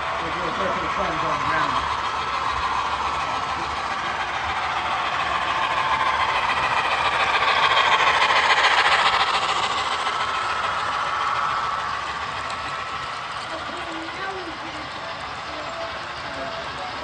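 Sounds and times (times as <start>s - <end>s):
model train clattering on track: 0.0s - 17.0s.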